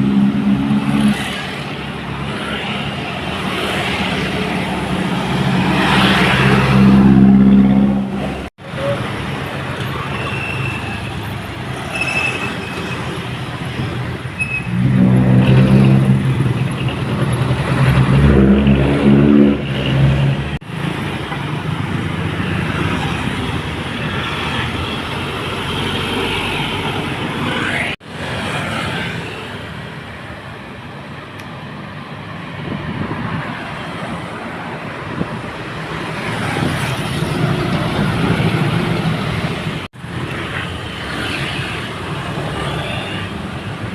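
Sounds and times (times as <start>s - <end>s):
diesel truck engines labouring: 0.0s - 43.9s
tyre and road noise: 0.0s - 43.9s.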